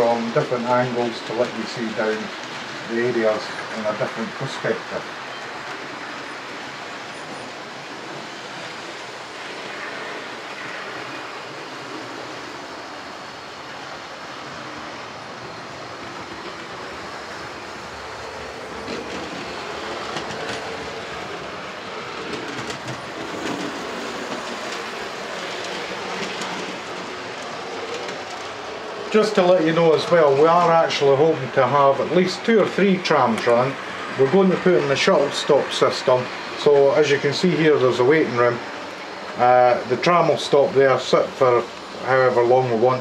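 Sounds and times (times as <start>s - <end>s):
model trains running hum: 0.0s - 43.0s.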